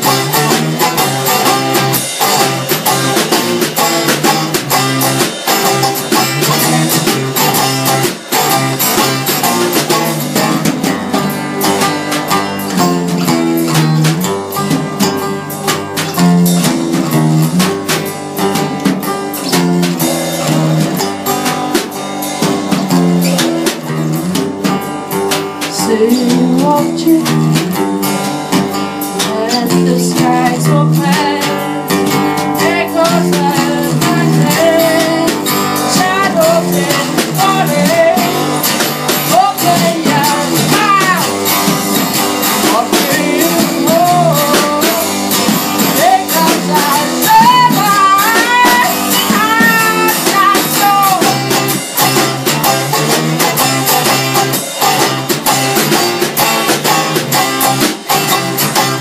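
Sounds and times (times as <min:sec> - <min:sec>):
band playing guitar song: 0:00.0 - 0:59.0
bending lead guitar melody: 0:00.0 - 0:59.0.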